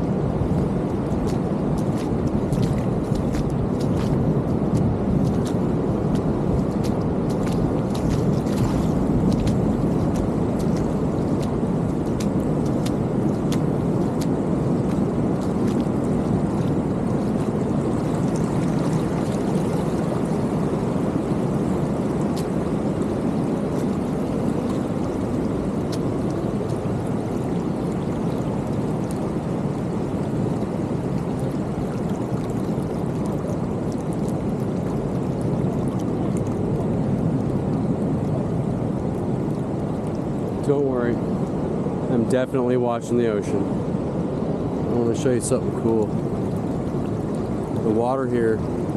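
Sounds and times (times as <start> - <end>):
creek water flowing: 0.0 - 48.9
ocean surf rushing: 0.0 - 48.9.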